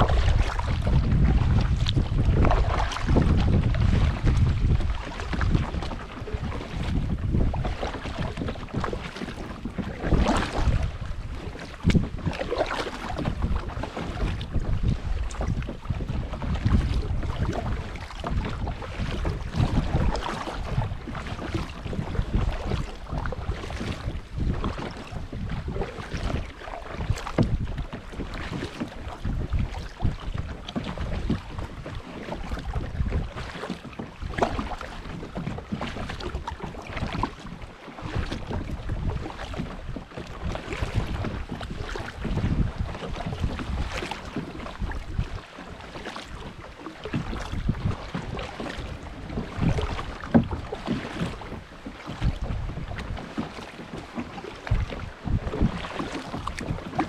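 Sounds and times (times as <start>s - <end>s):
wind buffeting microphone: 0.0s - 53.3s, 54.6s - 57.0s
water splashing and lapping: 0.0s - 57.0s.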